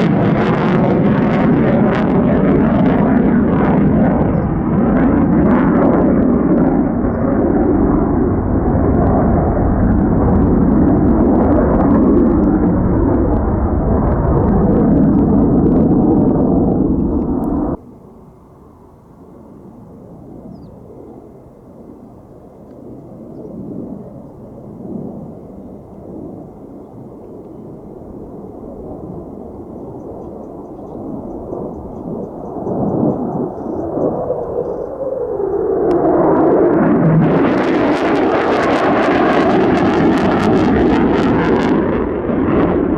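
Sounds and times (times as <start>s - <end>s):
distant jet rumble: 0.0s - 42.9s
jet engine roar: 0.0s - 42.9s.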